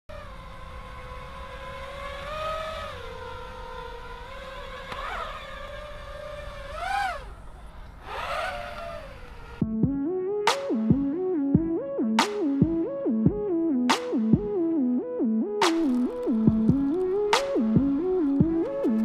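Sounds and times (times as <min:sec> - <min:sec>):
drone propellers whining: 0:00.1 - 0:19.0.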